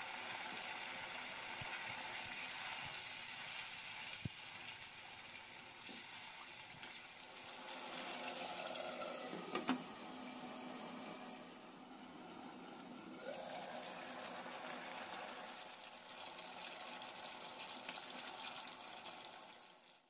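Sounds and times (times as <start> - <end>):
gravy sizzling in oil: 0.0 - 20.0.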